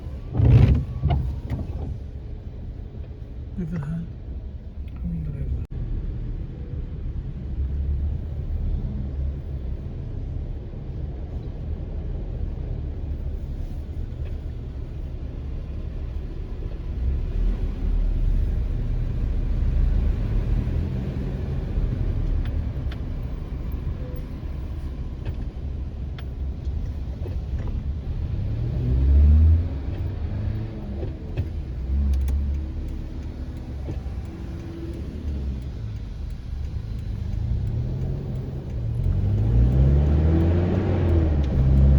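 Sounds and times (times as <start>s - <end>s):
car rumbling on road: 0.0s - 41.9s.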